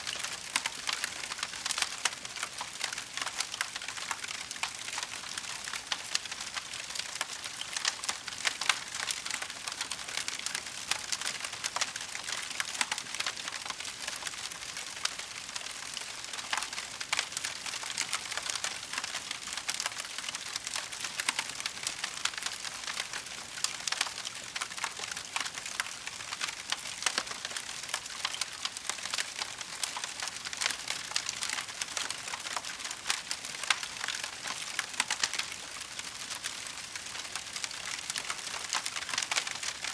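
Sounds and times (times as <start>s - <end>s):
wood fire crackling: 0.1s - 14.8s, 15.5s - 39.9s.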